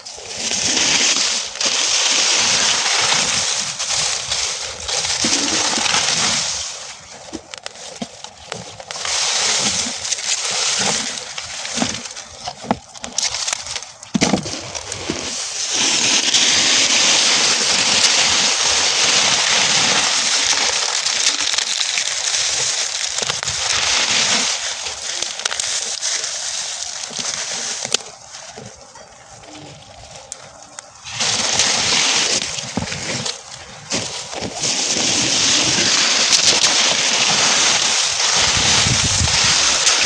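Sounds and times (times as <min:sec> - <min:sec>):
flames rushing hiss: 0:00.0 - 0:07.1, 0:14.5 - 0:40.0
burning straw crackling and popping: 0:00.0 - 0:40.0.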